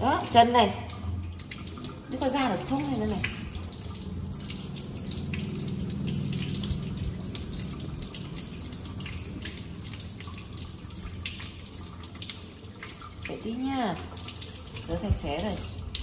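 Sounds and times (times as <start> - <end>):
tap water splashing in sink: 0.0 - 16.0.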